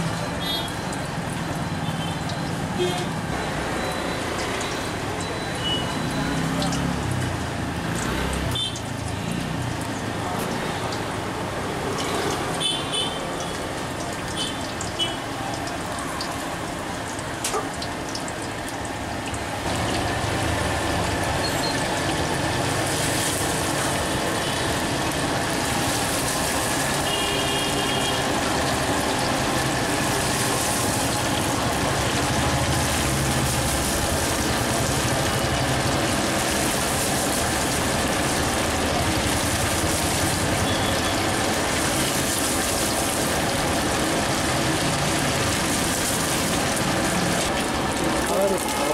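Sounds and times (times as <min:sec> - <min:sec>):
chicken deep-frying in oil: 0:00.0 - 0:48.9.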